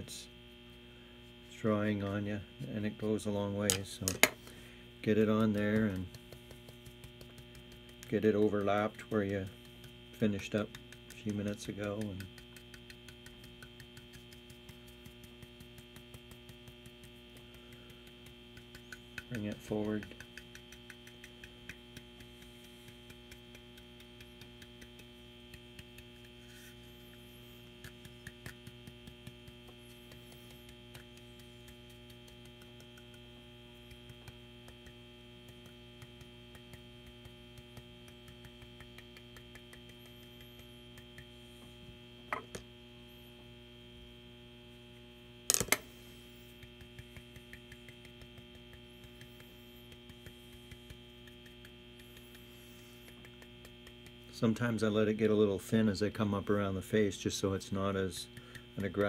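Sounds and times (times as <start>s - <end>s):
electrical hum: 0.0s - 59.0s
brush tapping on wood: 3.6s - 42.6s, 45.5s - 59.0s.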